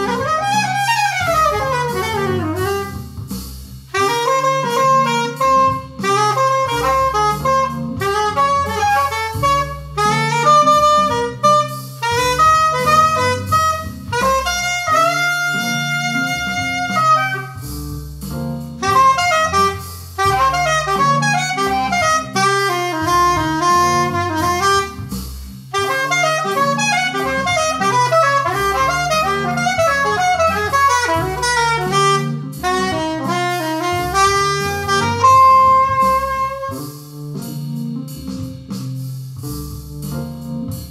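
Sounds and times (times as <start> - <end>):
bass line: 0.0 - 40.9
electronic lead melody: 0.0 - 40.9.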